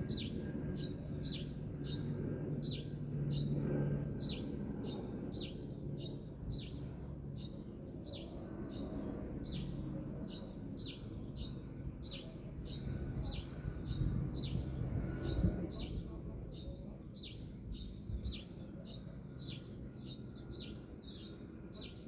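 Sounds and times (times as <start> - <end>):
low background rumble: 0.0 - 22.0
bird chirping: 4.2 - 22.0.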